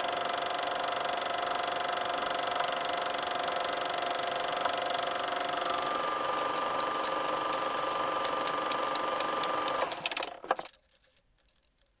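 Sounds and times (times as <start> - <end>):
film projector motor whirring: 0.0 - 10.7.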